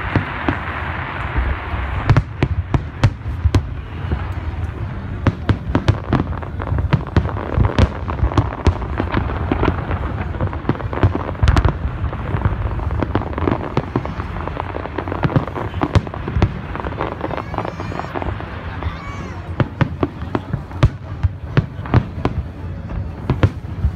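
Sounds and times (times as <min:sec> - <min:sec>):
fireworks bursting: 0:00.0 - 0:23.9.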